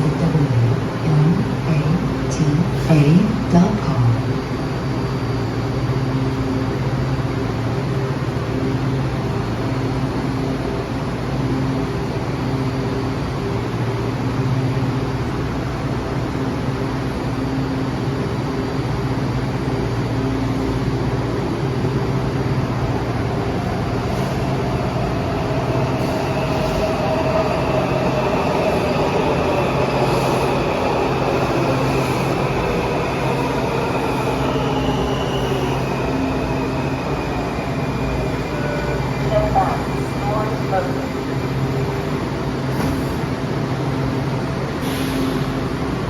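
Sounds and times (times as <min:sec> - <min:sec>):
train rumble at platform: 0:00.0 - 0:46.0.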